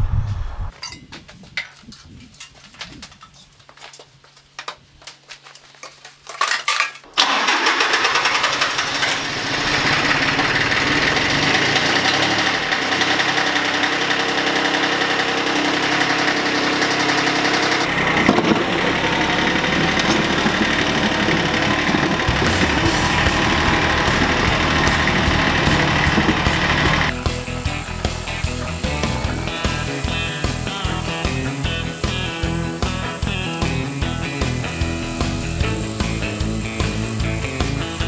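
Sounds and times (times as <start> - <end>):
diesel engine cranking and running: 7.2 - 38.0.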